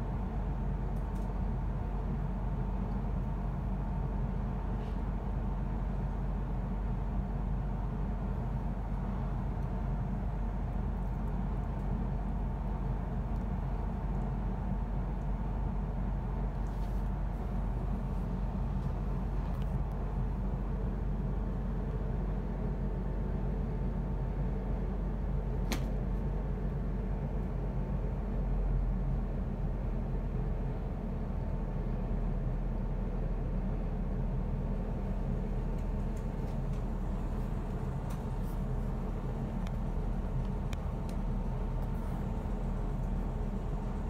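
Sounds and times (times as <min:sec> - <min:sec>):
train carriage hum: 0:00.0 - 0:44.0.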